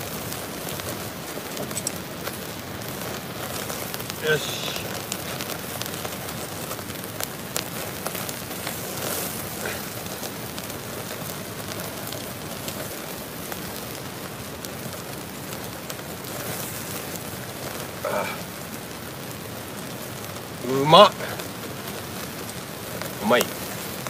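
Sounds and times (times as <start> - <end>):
charcoal crackling: 0.0 - 24.0
fish sizzling on grill: 0.0 - 24.0.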